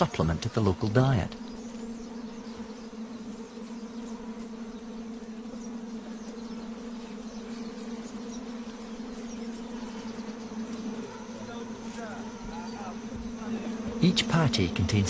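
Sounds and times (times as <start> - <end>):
midges buzzing: 0.0 - 15.0.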